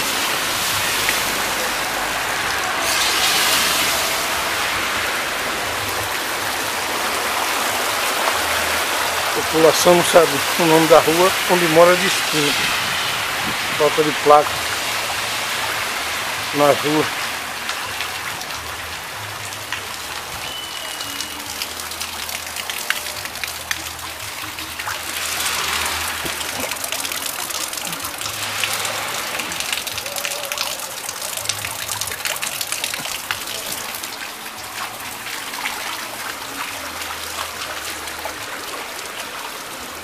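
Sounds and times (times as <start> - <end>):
running water on street: 0.0 - 40.0
steady rain: 0.0 - 40.0.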